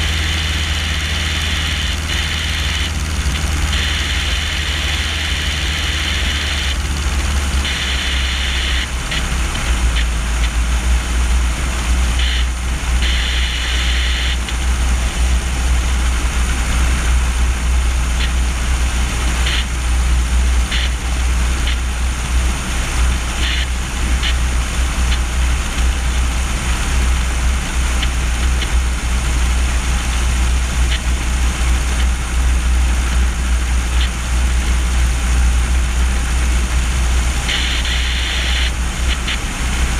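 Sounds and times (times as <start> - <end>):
plane engine and propeller drone: 0.0 - 39.9.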